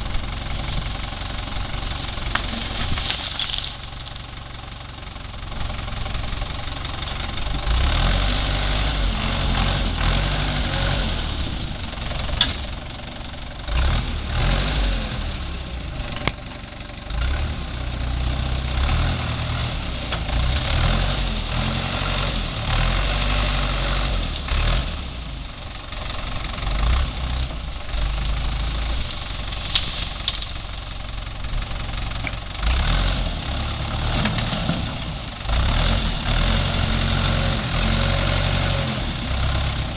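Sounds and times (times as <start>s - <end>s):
backhoe engine working: 0.0s - 39.9s.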